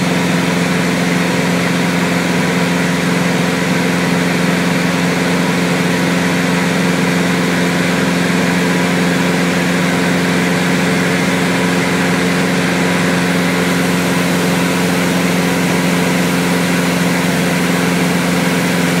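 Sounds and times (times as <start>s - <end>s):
light aircraft engine droning: 0.0s - 19.0s.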